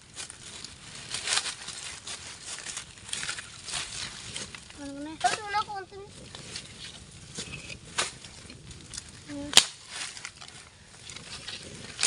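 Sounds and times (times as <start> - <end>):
footsteps in dry leaves: 0.0 - 12.0
twigs cracking: 0.0 - 12.0.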